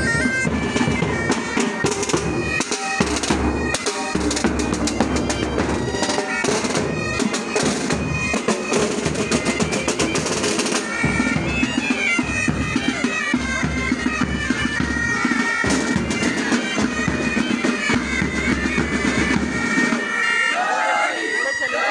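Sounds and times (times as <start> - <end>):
bagpipes playing melody: 0.0 - 21.9.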